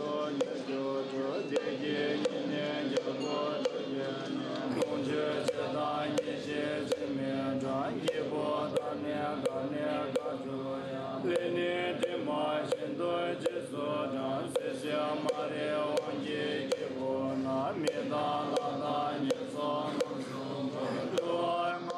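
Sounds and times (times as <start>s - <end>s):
voices chanting in unison: 0.0s - 21.9s.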